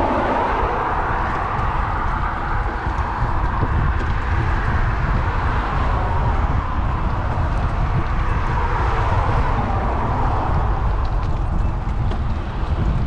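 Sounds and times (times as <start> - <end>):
tyres rushing on path: 0.0 - 13.0
wind rumble on microphone: 0.0 - 13.0.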